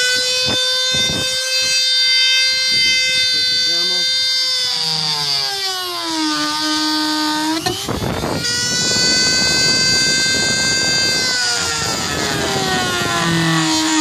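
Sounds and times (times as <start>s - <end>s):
drill bit grinding through plastic: 0.0s - 14.0s
power drill whining: 0.0s - 14.0s.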